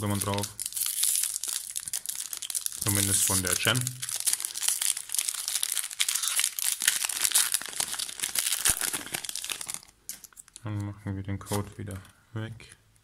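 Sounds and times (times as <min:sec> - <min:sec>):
foil wrapper crinkling: 0:00.0 - 0:10.6.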